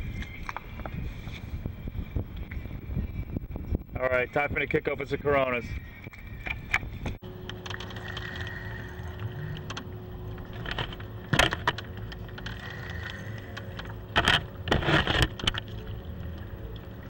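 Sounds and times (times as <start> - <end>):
faint steady hum: 0.0 - 17.0
small boat engine rumble: 0.0 - 17.0.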